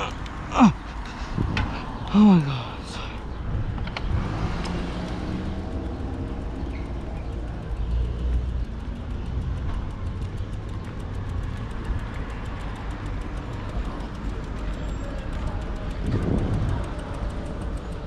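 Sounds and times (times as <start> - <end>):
low wind rumble: 0.0 - 18.0
vehicle engine running: 0.0 - 18.0.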